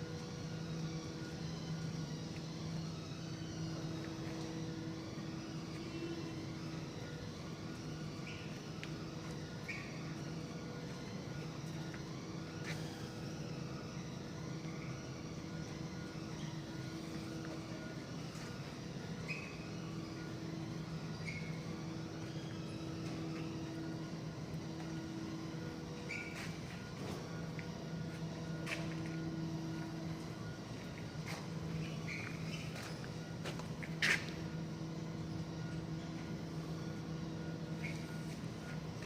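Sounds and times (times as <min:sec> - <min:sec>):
machine tone: 0:00.0 - 0:39.0
moulding machine humming: 0:00.0 - 0:39.0.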